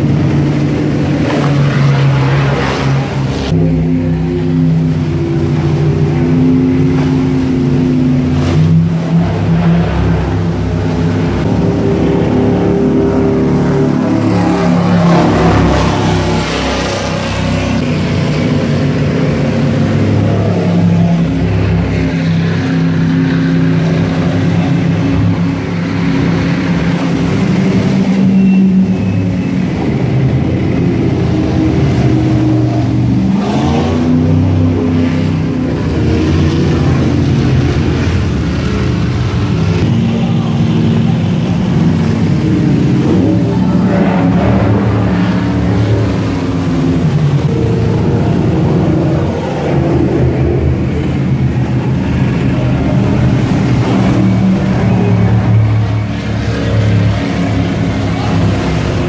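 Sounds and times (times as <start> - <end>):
powerboat engines running: 0.0 - 59.0.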